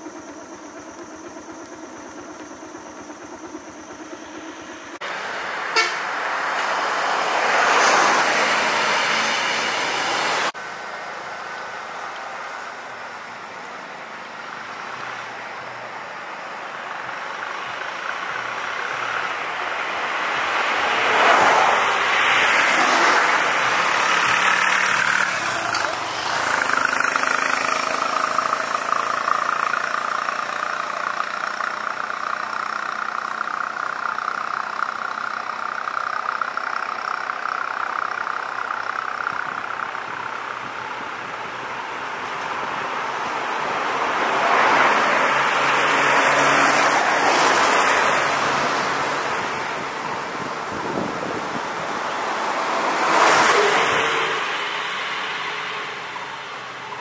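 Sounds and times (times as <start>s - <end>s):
vehicles passing close by: 0.0s - 57.0s.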